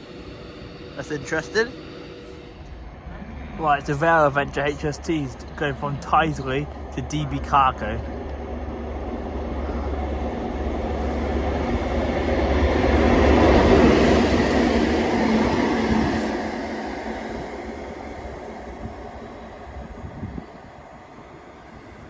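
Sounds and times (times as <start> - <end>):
diesel train passing: 0.0 - 22.0
low engine hum: 0.0 - 22.0.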